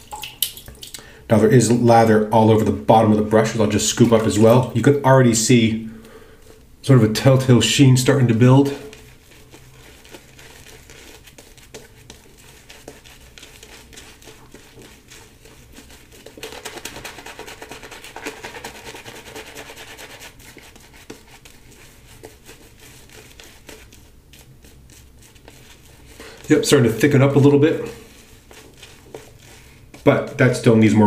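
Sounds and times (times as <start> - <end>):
shaving brush swishing lather: 2.4 - 5.7, 7.2 - 31.0.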